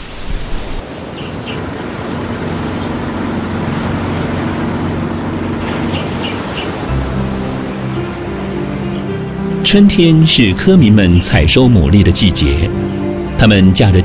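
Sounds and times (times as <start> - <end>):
boat engine over water: 0.7 - 14.0.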